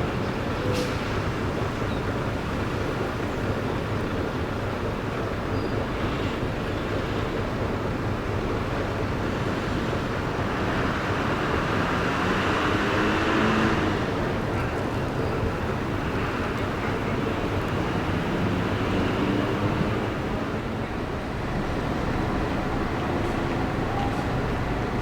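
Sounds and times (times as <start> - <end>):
bus engines: 0.0 - 25.0
traffic noise: 0.0 - 25.0.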